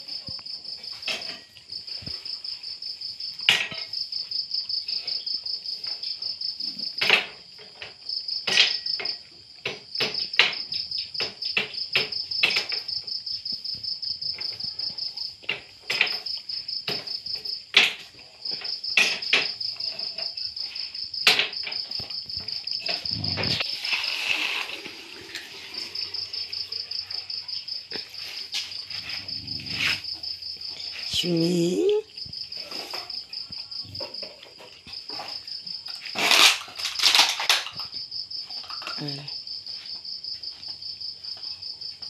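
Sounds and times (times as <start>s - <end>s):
cricket chirping: 0.0s - 42.0s.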